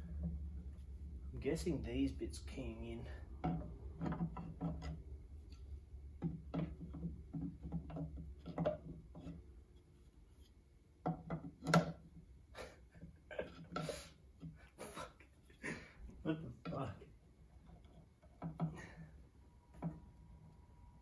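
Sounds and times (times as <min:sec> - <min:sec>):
statue parts knocking and scraping: 0:00.0 - 0:21.0.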